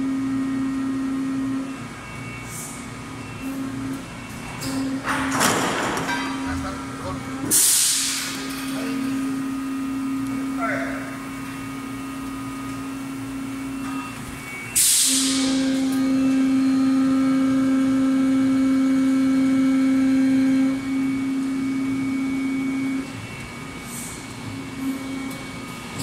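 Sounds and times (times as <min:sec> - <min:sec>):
hydraulic machine hum: 0:00.0 - 0:26.0.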